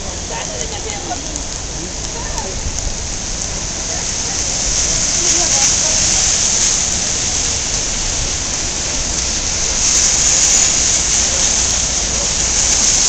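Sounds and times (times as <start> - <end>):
low rumble: 0.0 - 13.0
steady rain falling: 0.0 - 13.0.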